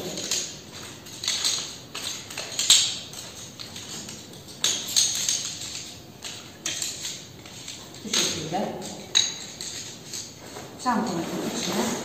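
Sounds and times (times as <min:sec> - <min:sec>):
metal chair tubes clacking: 0:00.0 - 0:12.0.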